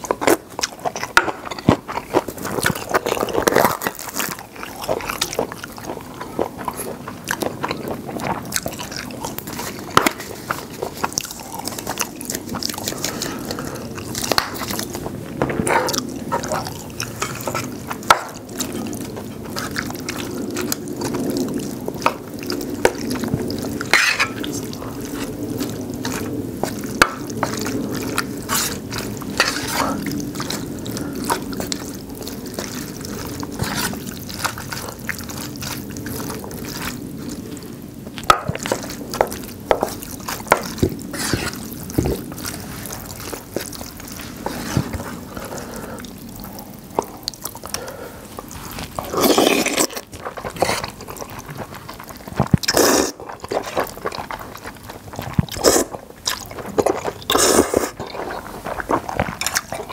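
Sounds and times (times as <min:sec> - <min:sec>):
noodles slurped: 0:00.0 - 0:59.9.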